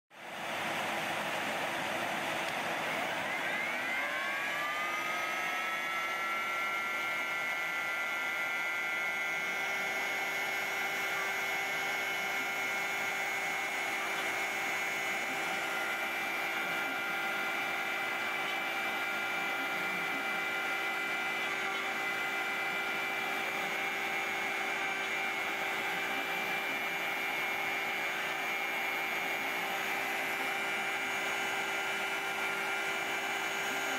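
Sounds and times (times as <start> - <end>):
spindle whine: 0.4 - 33.9.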